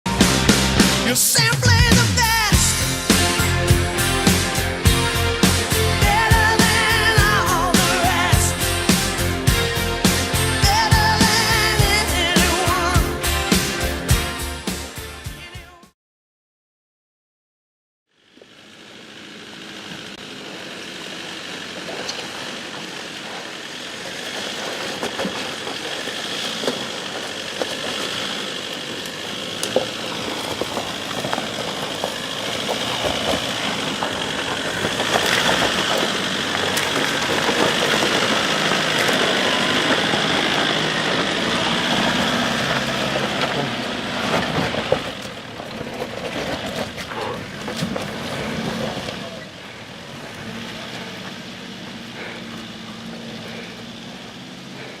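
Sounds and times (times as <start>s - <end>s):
off-road vehicle engine under load: 0.0s - 15.8s, 18.1s - 55.0s.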